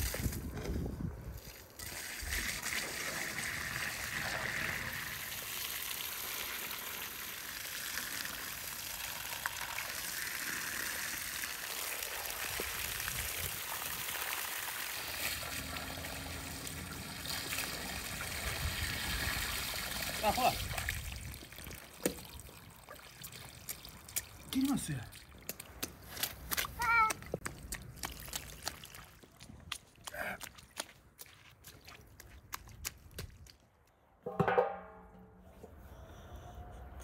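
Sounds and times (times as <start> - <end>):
hose water splashing on meat: 1.4 - 33.1.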